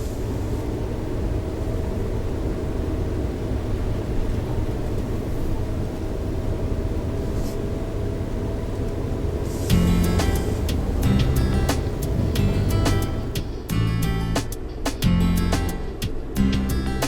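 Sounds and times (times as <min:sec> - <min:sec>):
car engine rumbling: 0:00.0 - 0:17.0
tyres on the road: 0:00.0 - 0:17.0.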